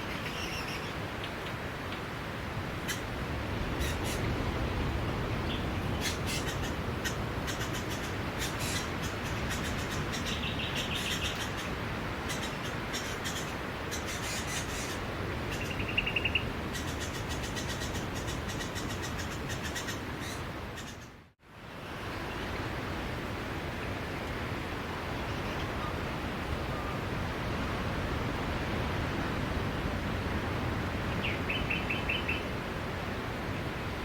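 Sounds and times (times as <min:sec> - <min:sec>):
sea waves on a beach: 0:00.0 - 0:20.8, 0:21.4 - 0:34.0.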